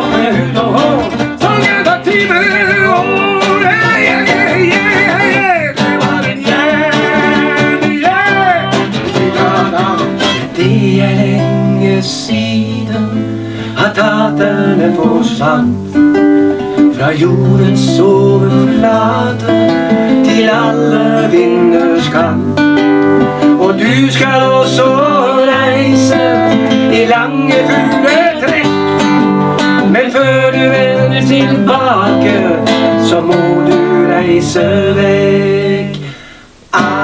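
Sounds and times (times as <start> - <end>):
man and woman singing: 0.0 - 16.0, 16.7 - 22.6, 23.2 - 37.0
strummed acoustic guitar: 0.0 - 37.0.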